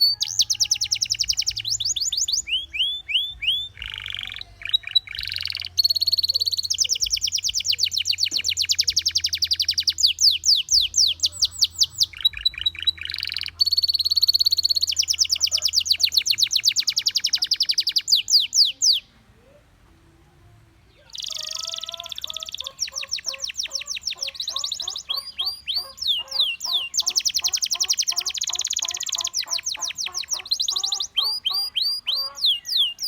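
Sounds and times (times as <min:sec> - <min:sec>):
canary singing trilled rolls: 0:00.0 - 0:19.6, 0:20.8 - 0:33.0.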